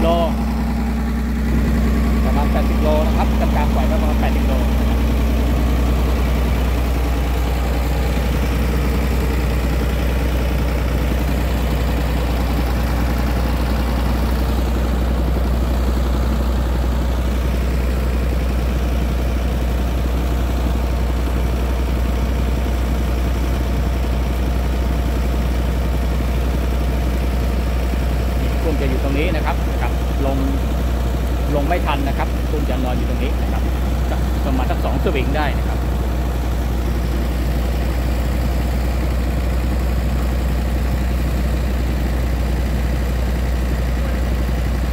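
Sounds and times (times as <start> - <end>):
pump engine running: 0.0 - 44.9.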